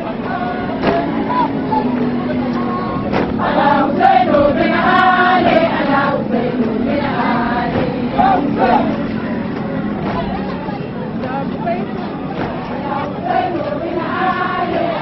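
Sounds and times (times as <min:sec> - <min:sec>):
crowd of women chanting: 0:00.0 - 0:15.0.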